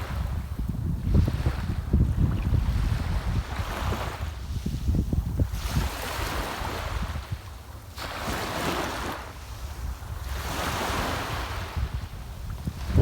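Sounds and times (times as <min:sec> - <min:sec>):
sea waves breaking on shore: 0:00.0 - 0:13.0
wind rumbling on microphone: 0:00.0 - 0:13.0.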